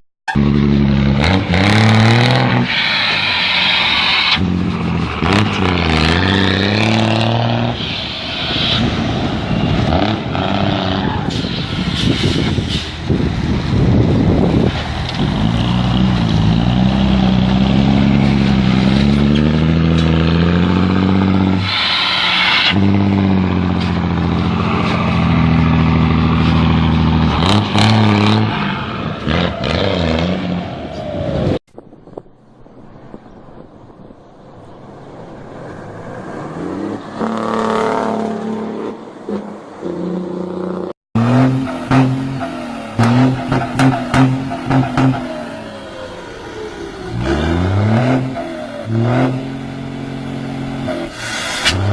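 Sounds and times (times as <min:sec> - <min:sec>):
vehicle engine revving and accelerating: 0:00.3 - 0:31.6, 0:35.2 - 0:51.9.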